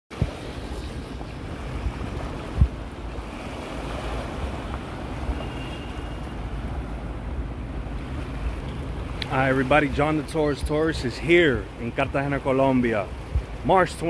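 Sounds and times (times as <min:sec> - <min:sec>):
wind buffeting microphone: 0:00.1 - 0:13.9
waves washing against rocky shore: 0:00.1 - 0:14.0.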